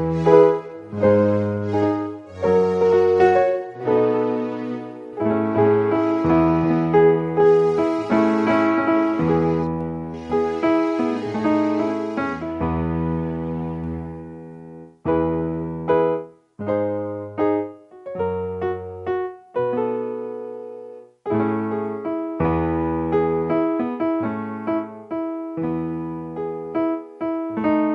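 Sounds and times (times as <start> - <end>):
slow solo piano chords: 0.0 - 27.9.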